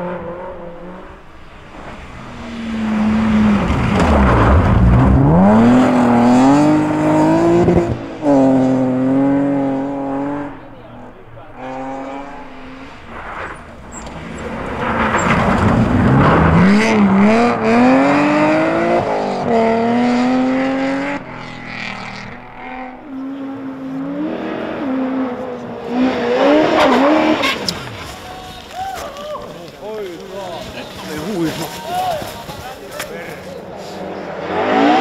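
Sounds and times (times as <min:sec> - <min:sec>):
rally cars passing revving: 0:00.0 - 0:28.8, 0:29.5 - 0:35.0.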